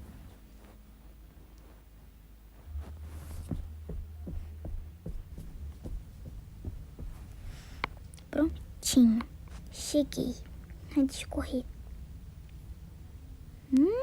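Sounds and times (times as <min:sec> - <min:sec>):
soft footsteps: 0:00.0 - 0:12.7.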